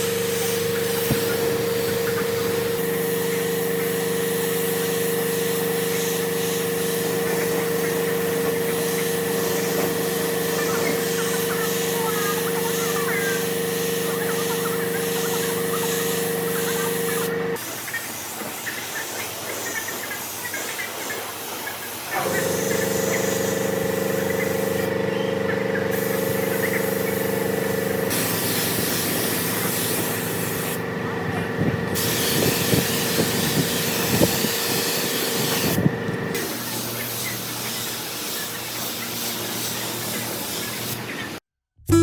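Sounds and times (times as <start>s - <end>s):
power tool motor running: 0.0s - 17.7s, 22.2s - 40.8s.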